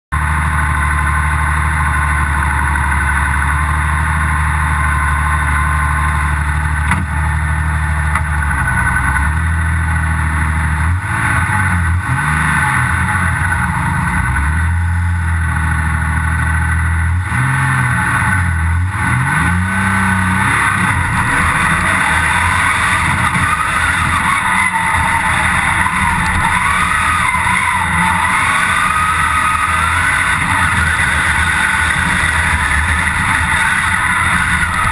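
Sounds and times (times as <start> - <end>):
high engine whine: 0.1 - 34.9
car engine revving: 0.2 - 34.9.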